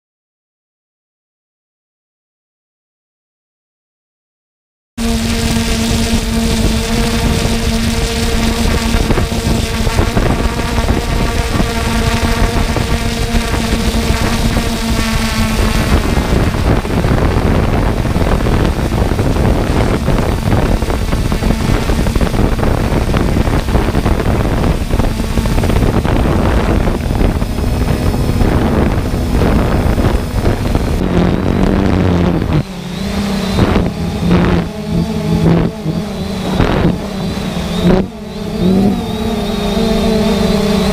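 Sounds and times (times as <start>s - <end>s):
drone propellers humming: 5.0s - 40.9s
wind rushing over microphone: 5.0s - 40.9s.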